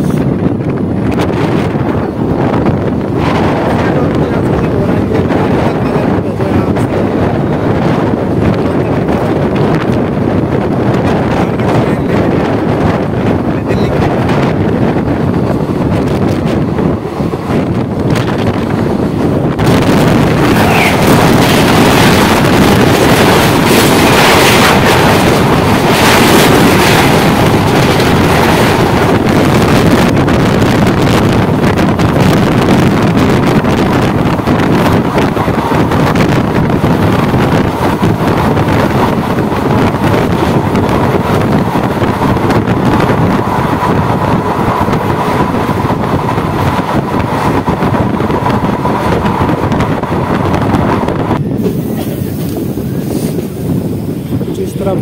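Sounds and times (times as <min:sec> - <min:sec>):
train wheel and rail noise: 0:00.0 - 0:55.0
wind buffeting microphone: 0:00.0 - 0:55.0.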